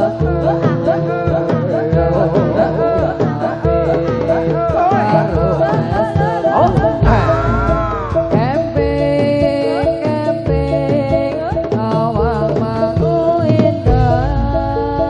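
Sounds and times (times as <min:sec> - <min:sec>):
drum strokes: 0:00.0 - 0:15.0
gamelan ensemble music: 0:00.0 - 0:15.0
woman singing sliding melody: 0:00.0 - 0:15.0.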